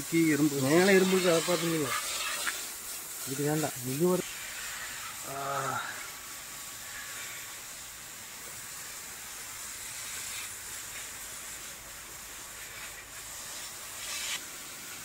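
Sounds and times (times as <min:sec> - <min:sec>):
water spraying from a hose: 0:00.0 - 0:15.0.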